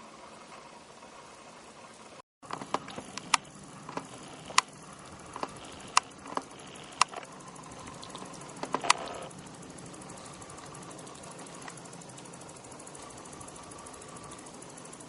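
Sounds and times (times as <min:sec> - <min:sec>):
grasshoppers chirping: 0:00.4 - 0:15.0.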